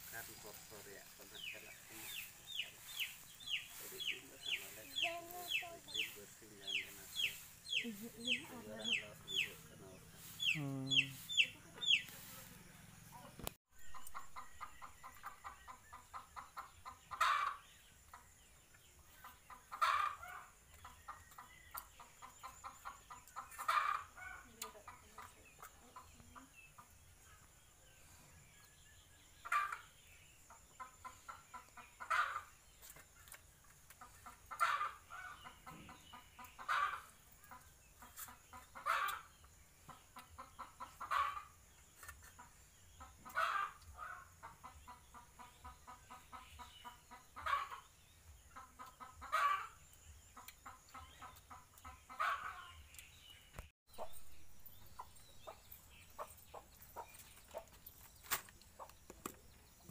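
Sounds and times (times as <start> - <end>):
chicken clucking: 0.2 - 27.0, 29.4 - 52.9, 53.9 - 59.9.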